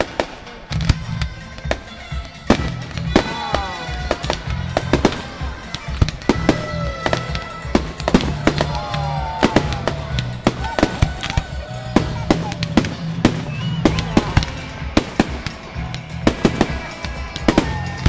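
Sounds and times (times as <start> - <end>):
fireworks bangs and crackles: 0.0 - 18.0
fireworks whistling downward: 0.0 - 18.0
music with steady bass: 0.0 - 18.0.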